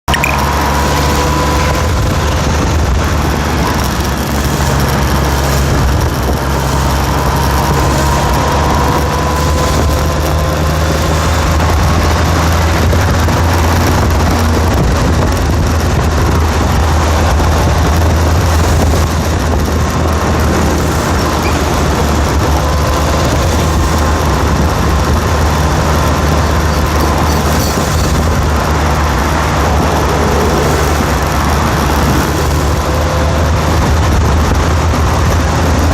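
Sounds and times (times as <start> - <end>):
engine running with low rumble: 0.0 - 35.9.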